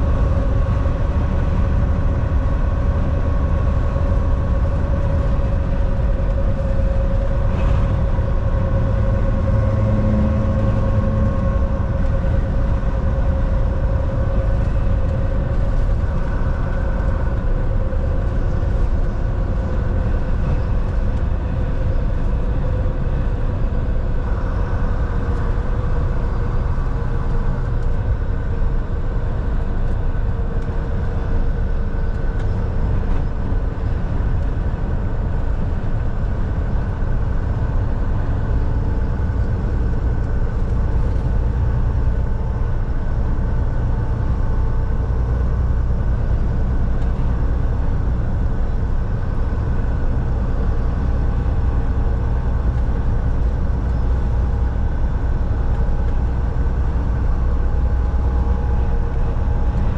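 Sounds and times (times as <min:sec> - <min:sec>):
steady whine sinking in pitch: 0:00.0 - 0:59.9
truck engine and road rumble: 0:00.0 - 0:59.9.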